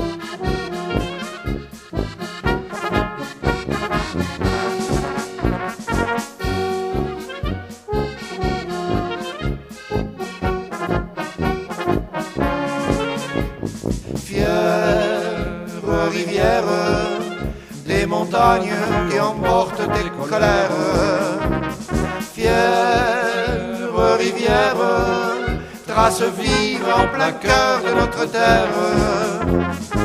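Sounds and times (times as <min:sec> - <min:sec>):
oom-pah bass beat: 0:00.0 - 0:30.0
trombone melody: 0:00.0 - 0:30.0
trumpet melody: 0:00.0 - 0:30.0.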